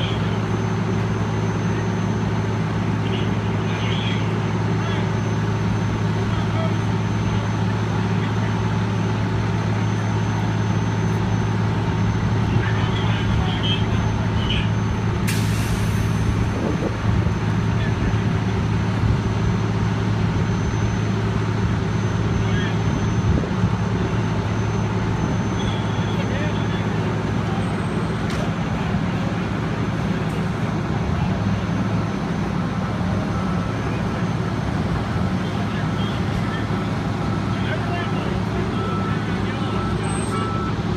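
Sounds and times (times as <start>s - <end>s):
fire engine engine running: 0.0s - 40.9s.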